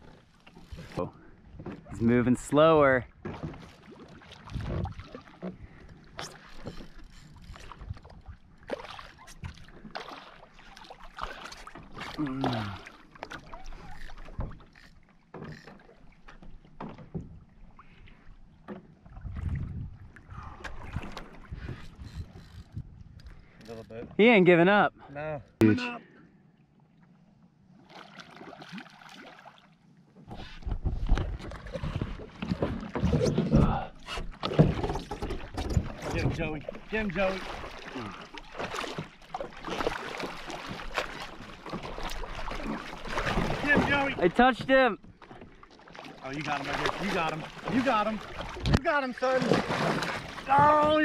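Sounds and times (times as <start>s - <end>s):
water sloshing alongside kayak: 0.0s - 51.0s.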